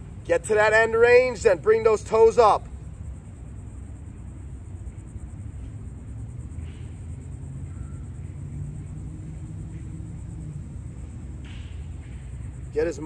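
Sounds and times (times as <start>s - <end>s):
faint low hum: 0.0s - 13.0s
low outdoor rumble: 0.0s - 13.0s.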